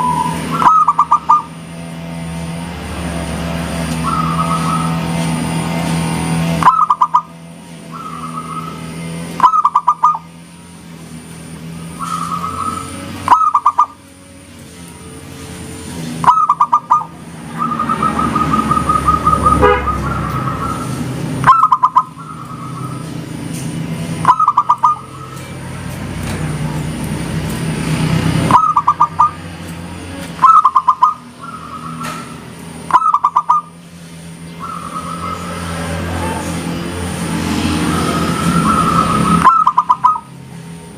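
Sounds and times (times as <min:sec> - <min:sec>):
doves cooing: 0:00.0 - 0:27.0, 0:27.8 - 0:40.5.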